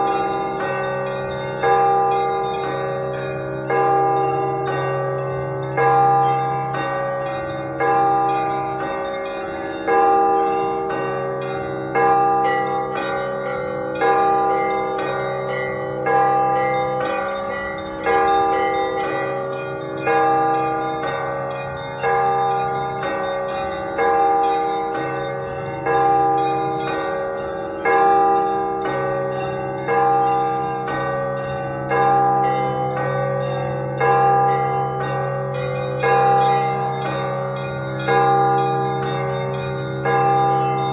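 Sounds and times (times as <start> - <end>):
large church bell strokes: 0.0 - 40.9
small high bells ringing: 0.0 - 40.9.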